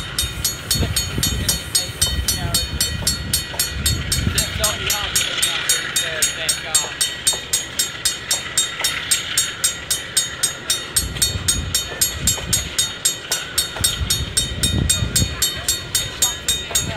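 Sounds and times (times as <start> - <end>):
freight train wheels rumbling: 0.0 - 16.9
level crossing bell ringing: 0.0 - 16.9.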